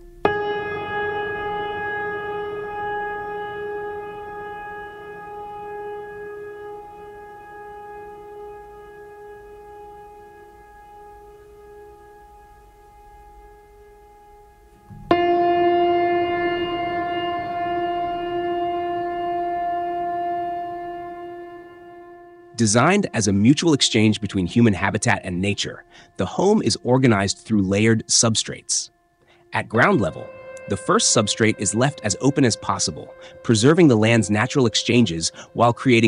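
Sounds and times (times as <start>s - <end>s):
held chords of background music: 0.0s - 36.0s.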